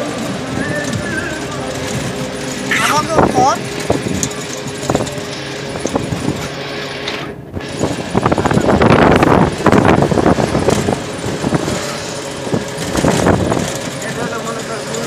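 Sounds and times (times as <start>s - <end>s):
passing vehicle rough rush: 0.0s - 15.0s
road traffic noise: 0.0s - 15.0s.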